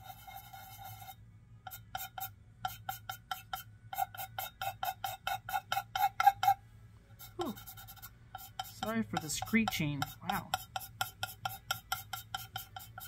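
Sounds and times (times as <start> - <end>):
pencil screeching on clay: 0.0 - 6.6, 7.2 - 13.0.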